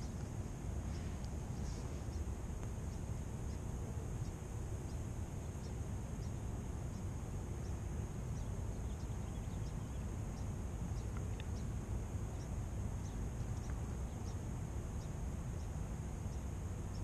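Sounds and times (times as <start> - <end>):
high insect trill with chirps: 0.0 - 17.0
wind rumble on microphone: 0.0 - 17.0.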